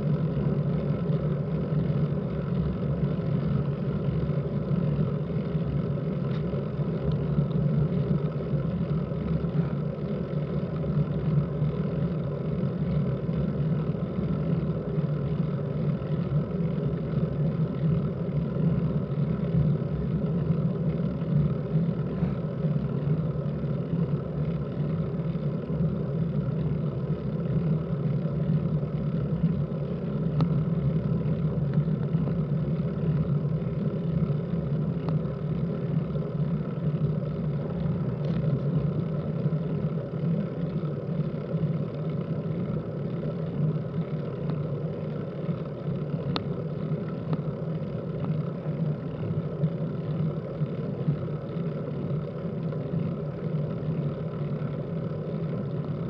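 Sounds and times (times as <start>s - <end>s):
faint ticks: 0.1s - 25.9s, 26.5s - 56.0s.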